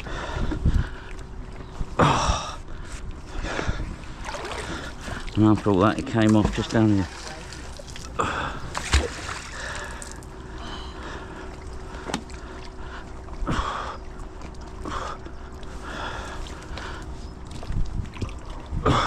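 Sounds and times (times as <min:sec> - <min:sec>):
water sloshing and splashing: 0:02.9 - 0:19.0.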